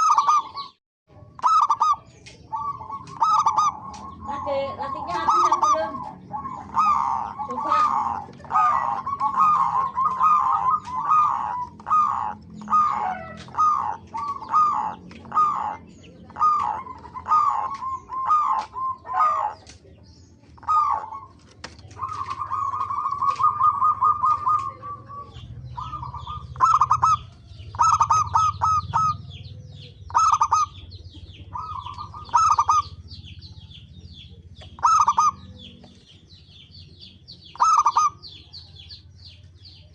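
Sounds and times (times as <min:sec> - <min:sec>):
doves cooing: 0:00.0 - 0:39.9
small bird chirping: 0:00.0 - 0:39.9.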